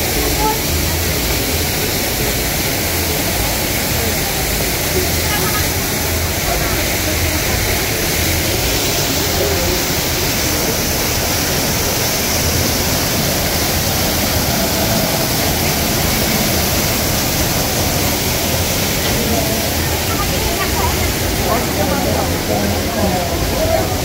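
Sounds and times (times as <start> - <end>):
waterfall splashing into pool: 0.0 - 24.0.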